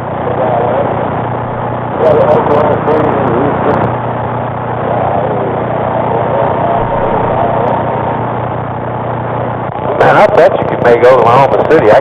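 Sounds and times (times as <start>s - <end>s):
radio static hiss: 0.0s - 12.0s
steady low hum: 0.0s - 12.0s.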